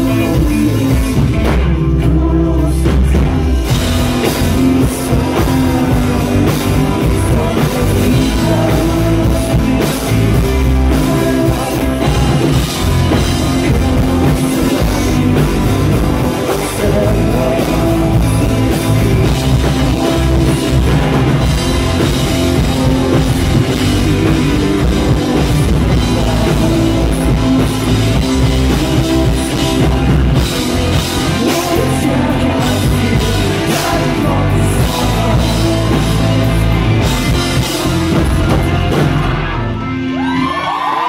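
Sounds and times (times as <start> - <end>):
live rock band playing: 0.0 - 41.0
man singing lead vocals: 0.0 - 41.0.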